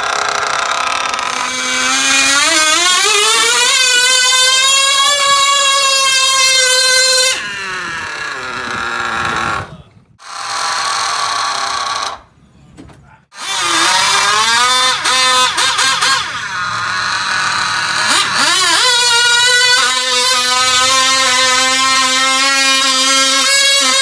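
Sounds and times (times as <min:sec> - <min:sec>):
electric motors whining: 0:00.0 - 0:12.3, 0:13.4 - 0:24.0.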